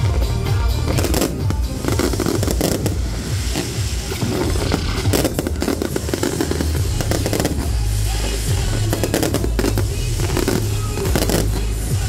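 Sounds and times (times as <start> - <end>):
deep low rumble: 0.0 - 11.3
fireworks bursting and crackling: 0.0 - 12.0.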